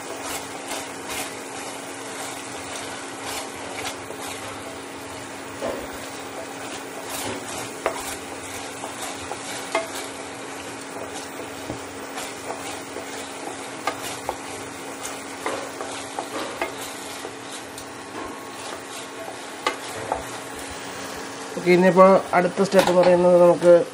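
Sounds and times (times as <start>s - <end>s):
spatula scraping sizzling sauce in pan: 0.0s - 21.6s.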